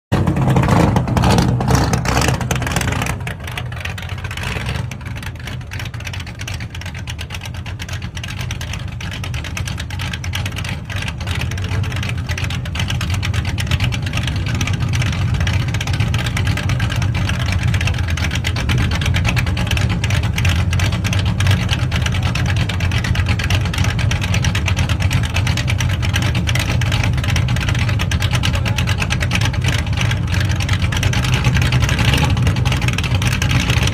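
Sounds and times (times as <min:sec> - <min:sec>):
engine idling: 0:00.1 - 0:33.9.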